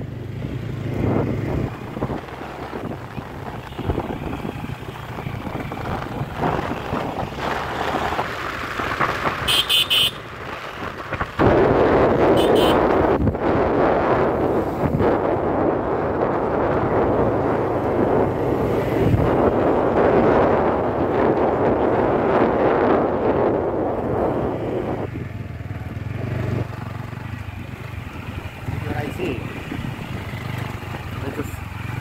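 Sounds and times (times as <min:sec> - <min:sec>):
wind buffeting microphone: 0:00.0 - 0:09.5, 0:10.3 - 0:32.0
motorcycle engine and tyres: 0:00.0 - 0:32.0.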